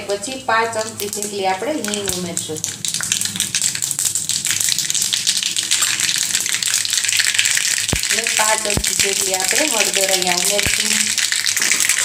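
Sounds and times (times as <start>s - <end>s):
seeds crackling in hot oil: 0.0s - 12.0s.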